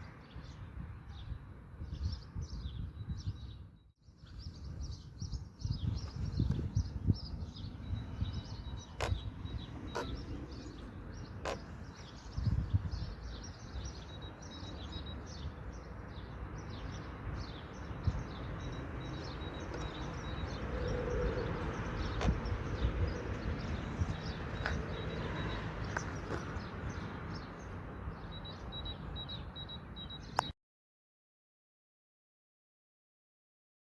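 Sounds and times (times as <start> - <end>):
small birds chirping: 0.0 - 30.6.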